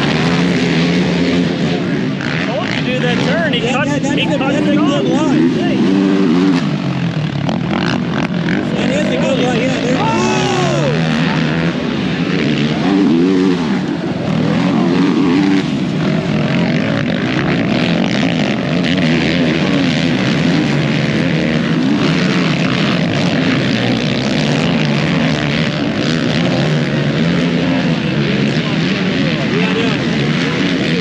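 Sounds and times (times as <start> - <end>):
quad engines revving: 0.0 - 31.0.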